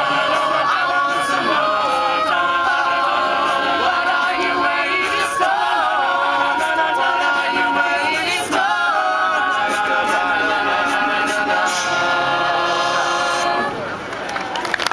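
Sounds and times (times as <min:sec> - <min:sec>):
group singing in close harmony: 0:00.0 - 0:13.8.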